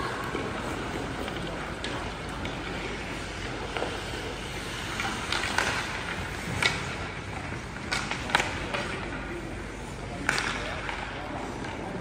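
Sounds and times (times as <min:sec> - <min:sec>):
arena noise: 0:00.0 - 0:12.0
hockey sticks and puck clacking: 0:00.0 - 0:12.0
skate blades on ice: 0:00.0 - 0:12.0.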